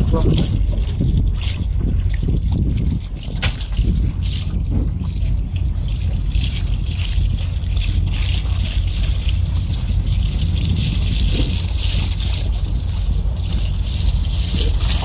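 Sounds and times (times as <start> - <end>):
steady low rumble: 0.0 - 15.0
water rushing along ship hull: 0.0 - 15.0.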